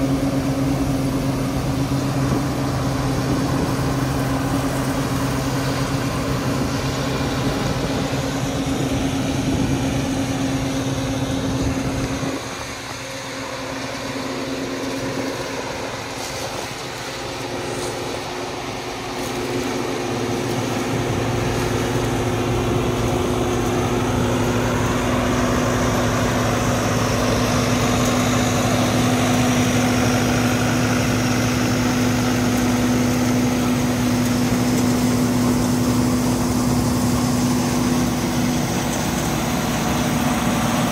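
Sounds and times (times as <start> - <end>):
harvester engine humming: 0.0 - 40.9.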